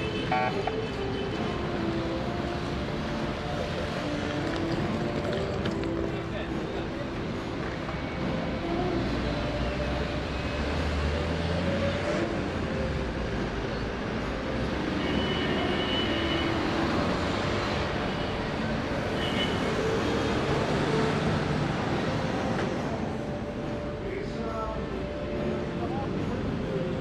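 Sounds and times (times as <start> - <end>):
faint cafe sounds: 0.0 - 27.0
road traffic noise: 0.0 - 27.0.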